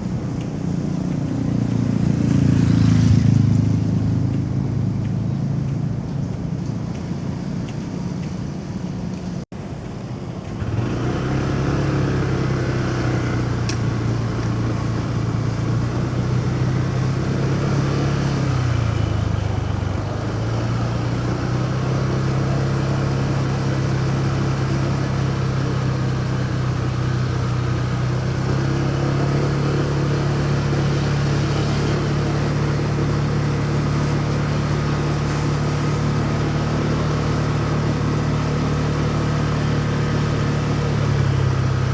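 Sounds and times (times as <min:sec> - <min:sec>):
motorcycle engine running: 0:00.0 - 0:41.9
road and traffic noise: 0:00.0 - 0:41.9.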